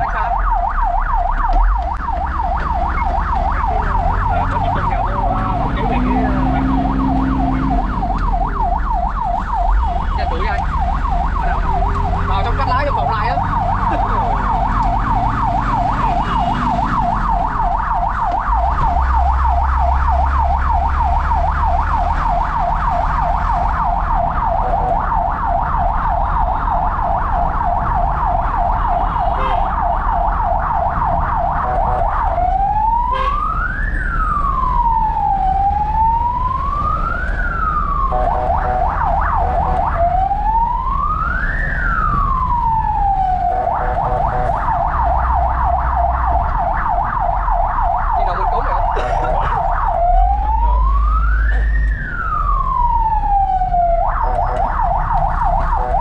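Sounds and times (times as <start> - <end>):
fire truck siren: 0.0 - 56.0
truck engine rumbling: 0.0 - 56.0.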